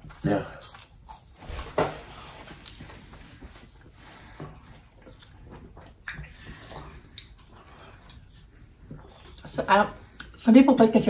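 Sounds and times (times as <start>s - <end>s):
chewing french fries: 0.0s - 10.5s.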